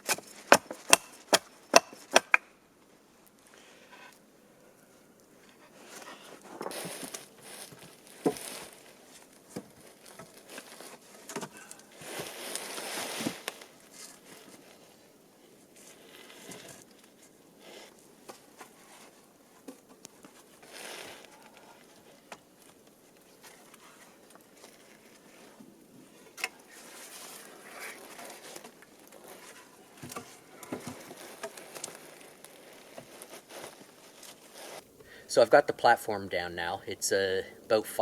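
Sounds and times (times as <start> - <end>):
branches rustling and crunching: 5.2 - 36.8.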